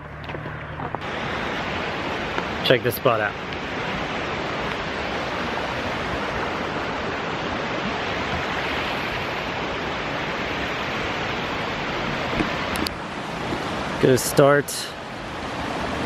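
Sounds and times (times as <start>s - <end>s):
waterfall rushing: 1.0s - 16.0s.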